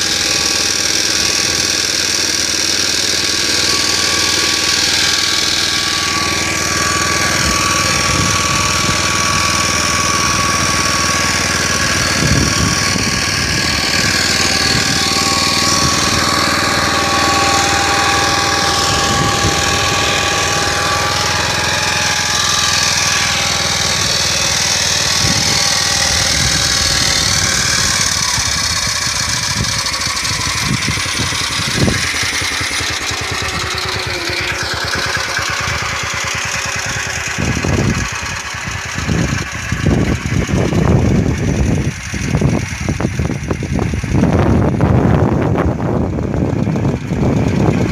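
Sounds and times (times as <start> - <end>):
tractor engine running under load: 0.0 - 47.9.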